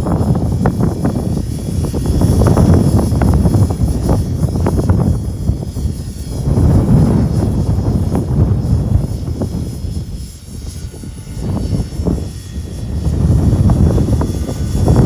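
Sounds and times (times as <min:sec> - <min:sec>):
model helicopter whine: 0:00.0 - 0:15.0
wind rumble on microphone: 0:00.0 - 0:15.0.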